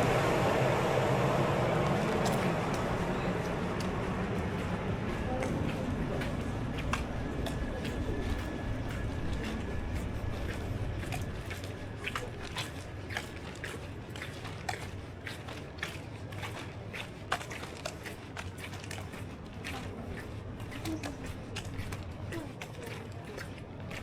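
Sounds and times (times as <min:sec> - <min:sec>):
steady low hum: 0:00.0 - 0:24.0
footsteps walking: 0:01.8 - 0:24.0.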